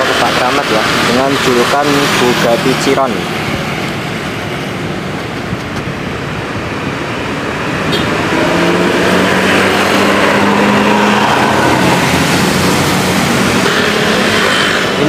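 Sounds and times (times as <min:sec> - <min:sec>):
bus driving past: 0:00.0 - 0:15.0
traffic noise: 0:00.0 - 0:15.0.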